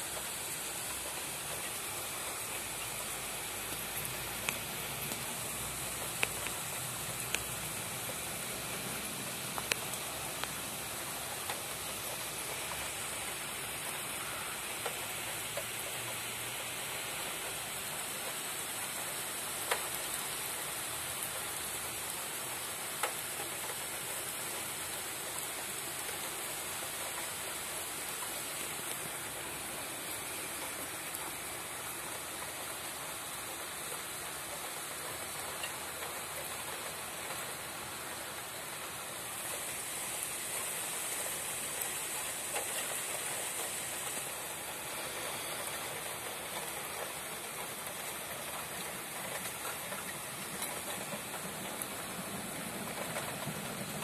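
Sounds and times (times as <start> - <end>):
heavy rain downpour: 0.0 - 54.0.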